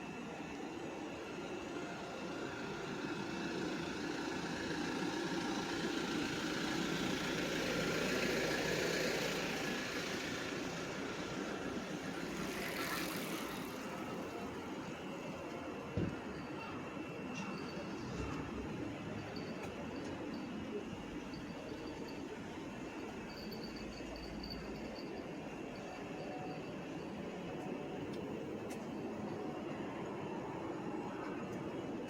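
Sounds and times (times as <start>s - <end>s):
street noise: 0.0s - 32.0s.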